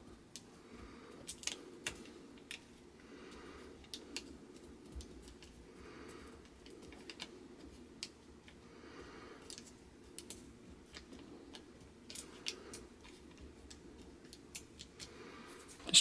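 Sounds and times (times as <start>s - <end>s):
soft rustle of paper: 0.0s - 16.0s.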